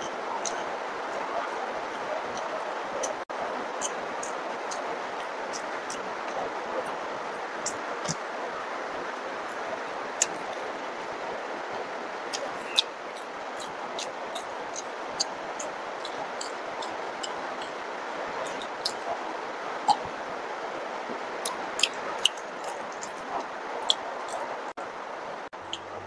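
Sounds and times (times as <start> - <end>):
heavy rain hiss: 0.0 - 26.0.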